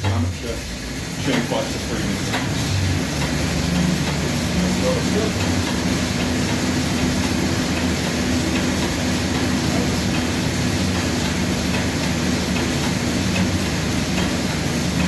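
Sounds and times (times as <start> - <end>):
air bike fan whirring: 0.0 - 15.0.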